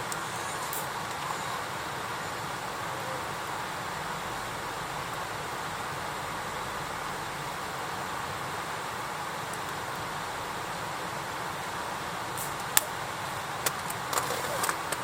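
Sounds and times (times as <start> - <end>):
campfire hissing: 0.0 - 15.0
fire crackles: 0.0 - 15.0.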